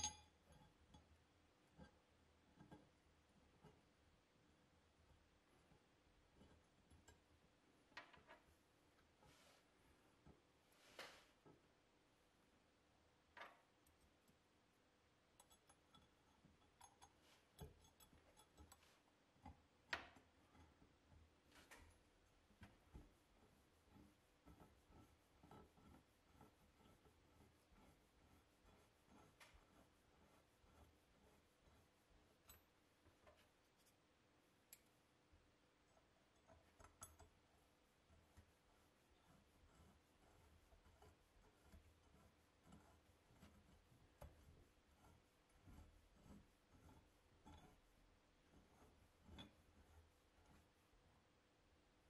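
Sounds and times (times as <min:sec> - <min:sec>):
soft brushing strokes: 0:08.5 - 0:52.0.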